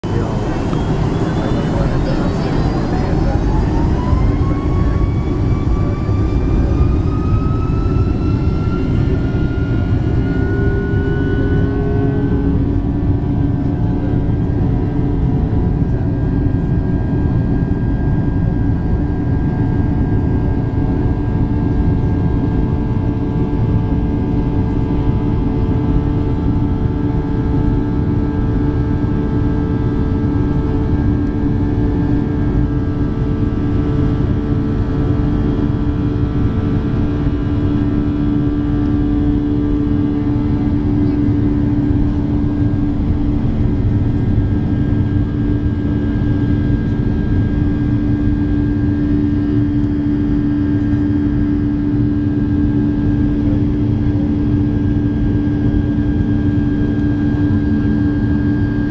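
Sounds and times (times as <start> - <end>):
jet engines rumbling from cabin: 0.0 - 58.9.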